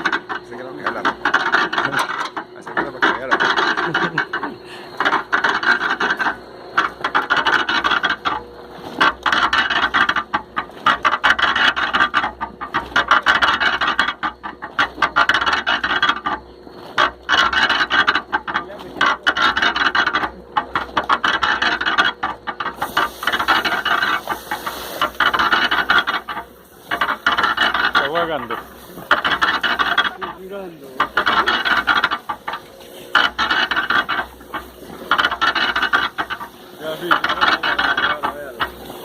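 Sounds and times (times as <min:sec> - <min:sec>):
faint motor hum: 0:00.0 - 0:39.0
washing machine rasping swish: 0:02.8 - 0:39.0.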